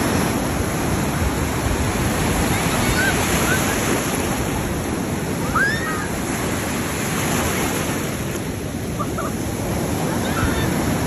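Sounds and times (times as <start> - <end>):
sea waves breaking in surf: 0.0 - 11.0.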